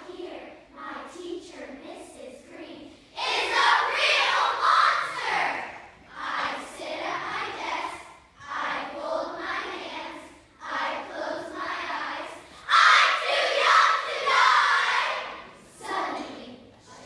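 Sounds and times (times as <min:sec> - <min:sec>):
children chanting in unison: 0:02.5 - 0:17.0.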